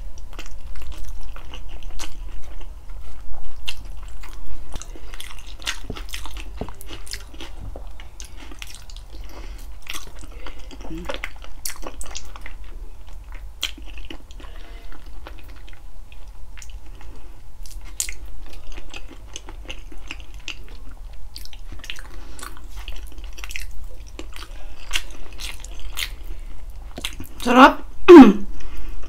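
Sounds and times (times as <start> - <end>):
steady low hum: 0.0 - 29.0
chewing and biting: 0.2 - 27.4.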